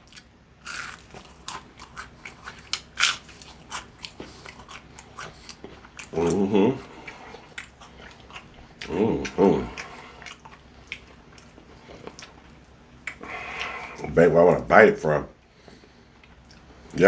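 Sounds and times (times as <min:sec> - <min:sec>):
crunchy chewing of fried chicken: 0:00.0 - 0:14.2.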